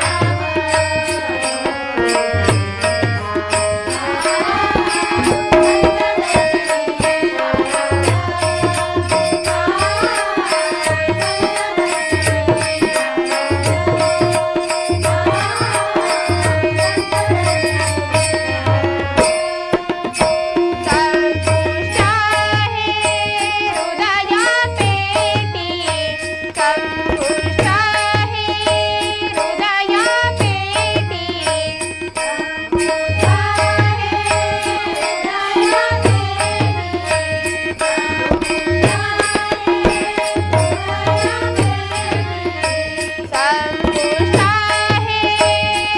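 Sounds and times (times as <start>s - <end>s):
hand drum beats: 2.0s - 25.8s, 32.2s - 45.9s.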